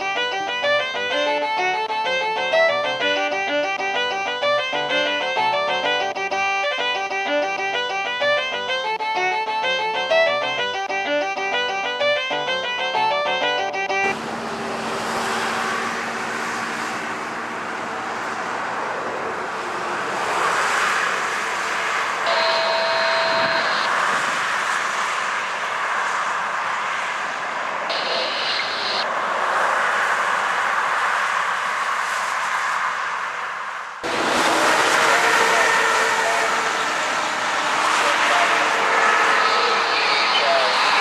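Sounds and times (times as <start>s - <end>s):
buses and cars driving past: 0.0s - 41.0s
engine hum: 0.0s - 41.0s.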